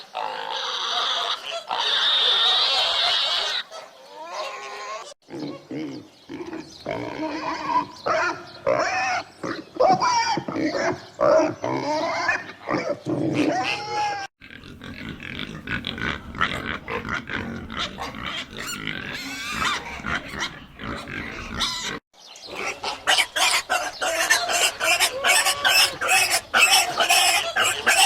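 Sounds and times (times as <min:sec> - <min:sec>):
pigs grunting and oinking: 0:00.0 - 0:28.0.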